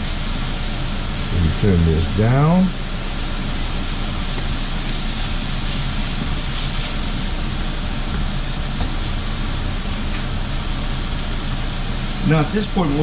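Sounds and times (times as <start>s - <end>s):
food sizzling in frying pan: 0.0s - 13.0s
kitchen fan running: 0.0s - 13.0s.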